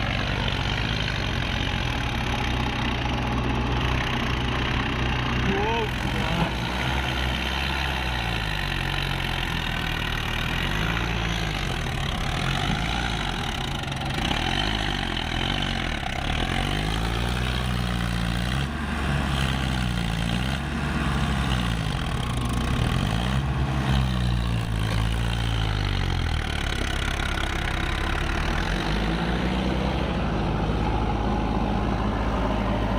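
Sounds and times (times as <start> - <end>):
diesel tractor engine running: 0.0 - 32.9.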